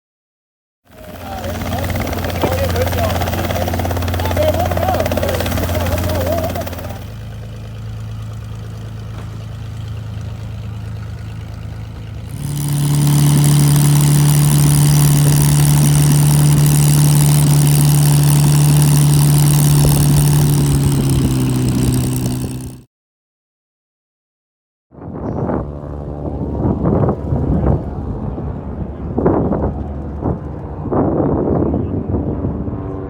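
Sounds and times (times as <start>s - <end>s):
aircraft engine running: 0.9s - 22.9s, 25.0s - 33.0s.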